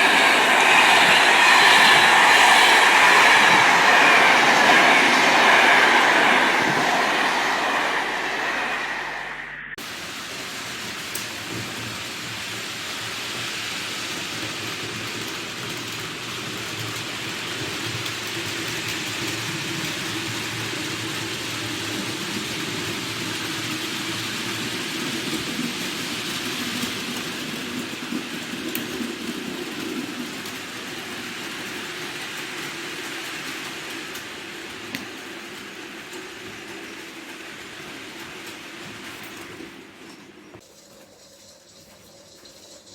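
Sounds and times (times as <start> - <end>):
train rumbling on track: 0.0 - 40.6.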